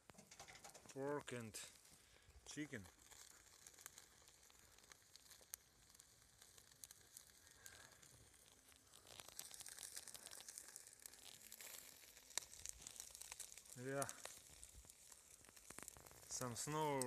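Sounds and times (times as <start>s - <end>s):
wood fire crackling: 0.0s - 17.0s
meat grilling hiss: 0.7s - 17.0s.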